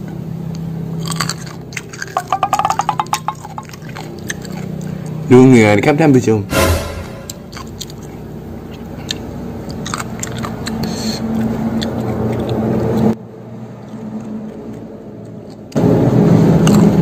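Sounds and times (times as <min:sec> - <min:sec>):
person chewing and crunching food: 0:00.0 - 0:05.3, 0:07.4 - 0:17.0.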